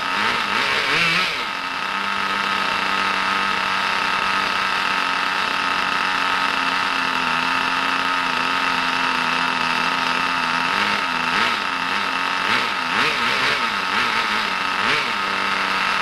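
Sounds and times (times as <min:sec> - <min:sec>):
engine throttle blips: 0:00.0 - 0:16.0
model car engine idling: 0:00.0 - 0:16.0.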